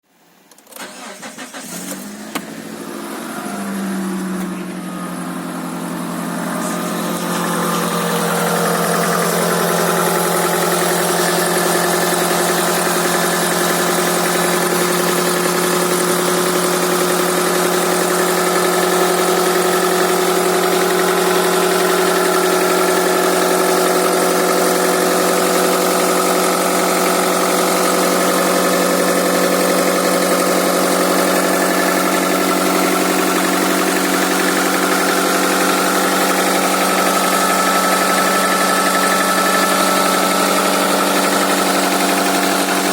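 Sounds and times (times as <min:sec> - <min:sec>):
car engine starting and idling: 0:00.2 - 0:42.9
engine knocking: 0:05.8 - 0:42.9.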